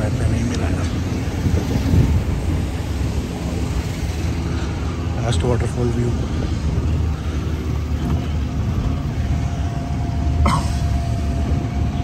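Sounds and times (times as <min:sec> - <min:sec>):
cart rumble: 0:00.0 - 0:12.0
thin steady whine: 0:00.0 - 0:12.0
wind on microphone: 0:00.0 - 0:12.0.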